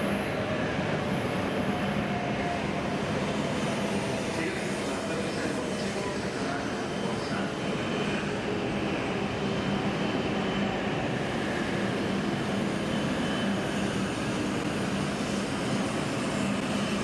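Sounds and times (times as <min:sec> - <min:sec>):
train humming: 0:00.0 - 0:17.0.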